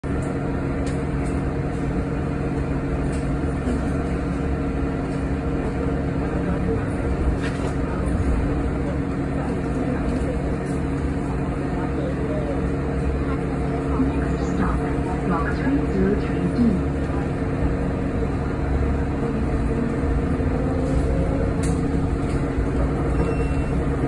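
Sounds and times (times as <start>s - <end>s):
bus cabin hum: 0.0s - 24.0s.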